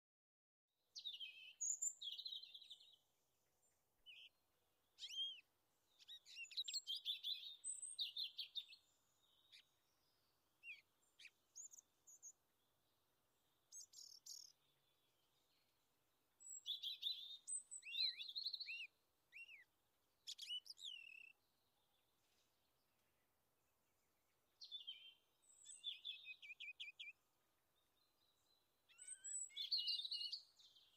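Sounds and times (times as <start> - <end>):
small birds chirping and singing: 0.8 - 30.9.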